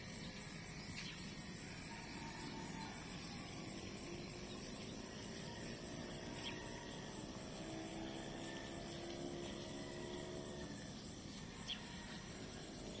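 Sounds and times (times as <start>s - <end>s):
insects chirping in pulsing trill: 0.0s - 13.0s.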